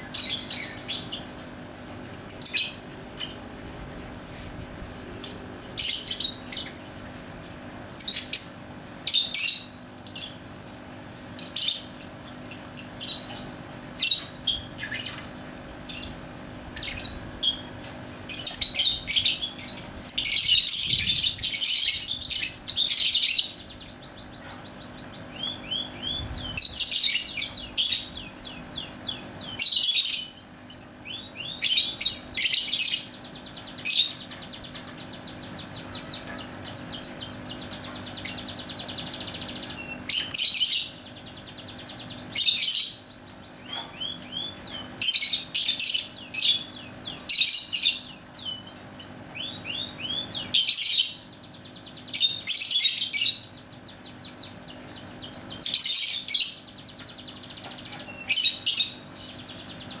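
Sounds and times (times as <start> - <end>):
lovebirds chirping: 0.0 - 1.3, 2.1 - 3.6, 5.0 - 7.0, 11.4 - 16.2, 16.8 - 60.0.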